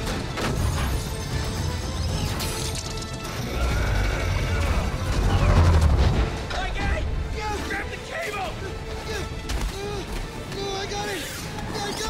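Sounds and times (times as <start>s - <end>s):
dramatic film score: 0.0s - 12.0s.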